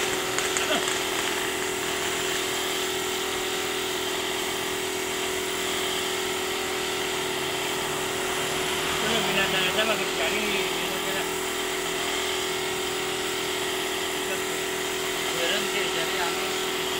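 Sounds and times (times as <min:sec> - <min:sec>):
air compressor humming: 0:00.0 - 0:16.9
air spray gun hissing: 0:00.0 - 0:16.9.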